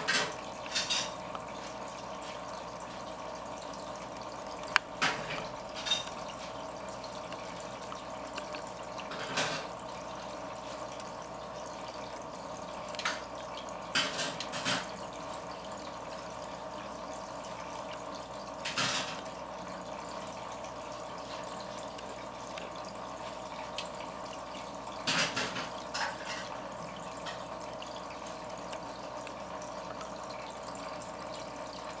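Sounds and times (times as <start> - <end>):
water drips: 0.0 - 32.0.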